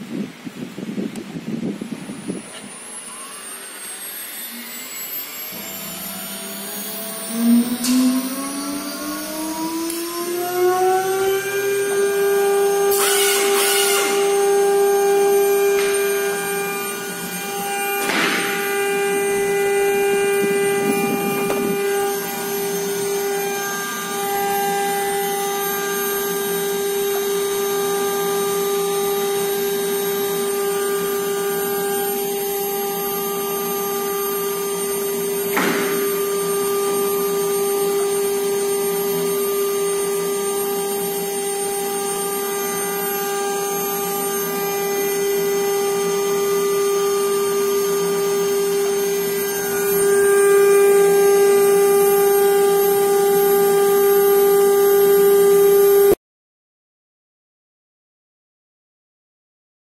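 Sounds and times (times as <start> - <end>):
router spindles whining: 0.4 - 56.2.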